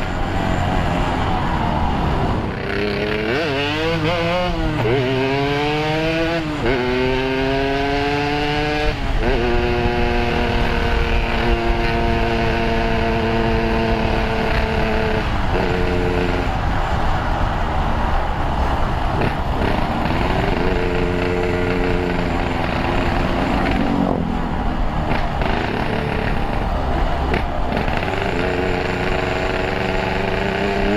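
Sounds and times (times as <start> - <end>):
wind and road noise: 0.0 - 30.9
two-stroke motorcycle engine revving: 1.9 - 17.2, 18.6 - 30.9.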